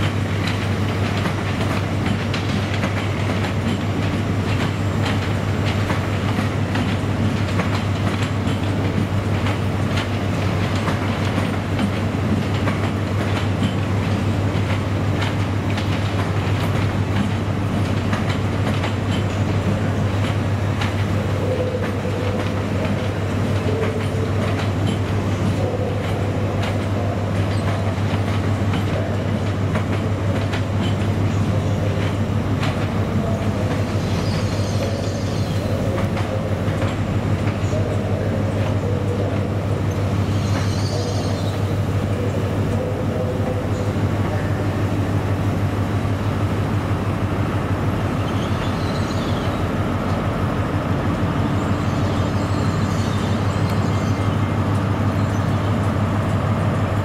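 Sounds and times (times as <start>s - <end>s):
train low hum: 0.0s - 57.0s
wheels clicking over rail joints: 0.0s - 57.0s.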